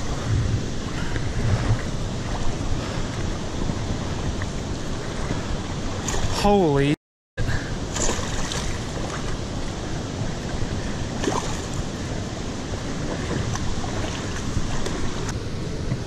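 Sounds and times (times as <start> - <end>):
river current over rocks: 0.0 - 16.0.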